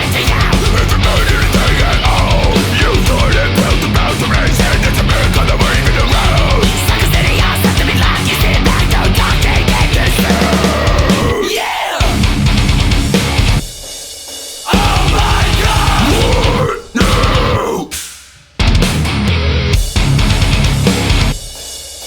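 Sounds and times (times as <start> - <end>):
heavy metal music with drums: 0.0 - 22.0.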